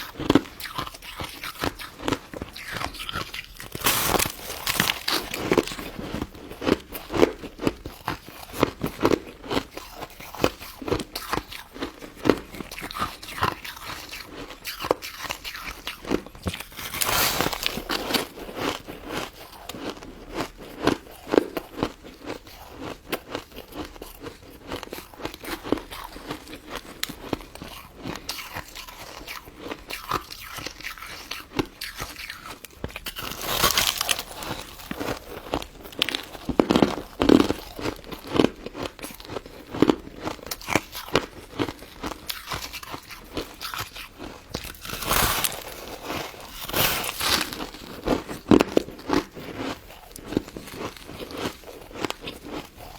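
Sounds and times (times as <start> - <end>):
chewing crunchy ice: 0.0 - 52.9.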